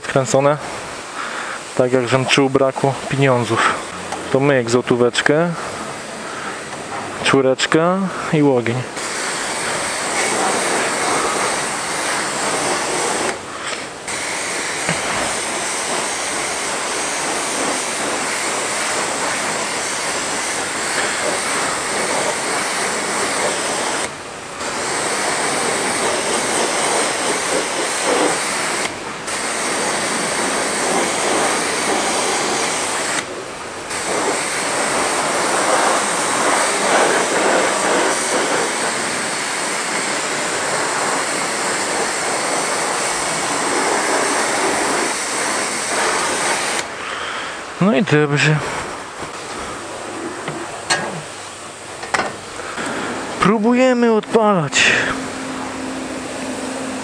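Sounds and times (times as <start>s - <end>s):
pressure washer spraying water: 0.0s - 47.4s, 48.4s - 57.0s.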